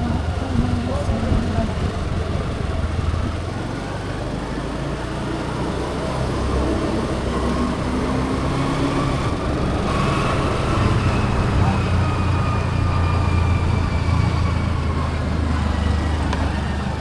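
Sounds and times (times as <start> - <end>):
vehicle and road rumble: 0.0 - 17.0.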